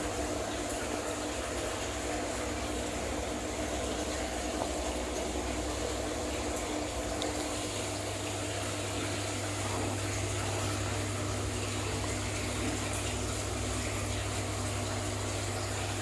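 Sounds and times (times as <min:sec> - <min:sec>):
aquarium pump humming: 0:00.0 - 0:16.0
water moving: 0:00.4 - 0:16.0.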